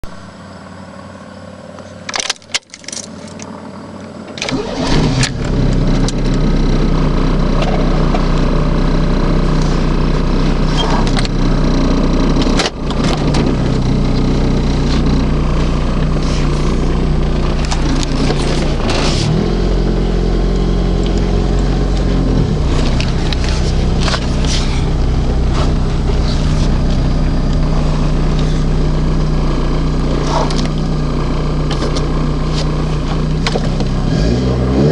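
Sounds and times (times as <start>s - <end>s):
car engine starting and idling: 0.0s - 34.9s.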